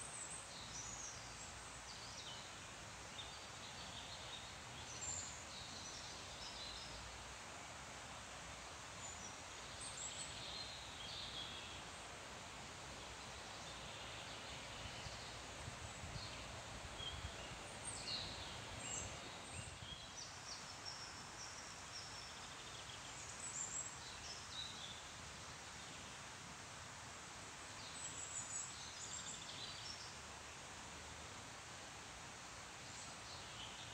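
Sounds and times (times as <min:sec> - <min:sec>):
small songbirds chirping: 0:00.0 - 0:26.4, 0:27.3 - 0:33.9
trees rustling: 0:00.0 - 0:33.9.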